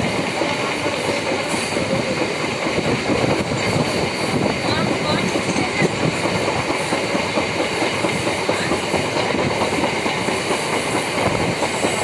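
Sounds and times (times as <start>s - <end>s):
train rushing noise: 0.0s - 12.0s
wheel clatter on rails: 0.0s - 12.0s.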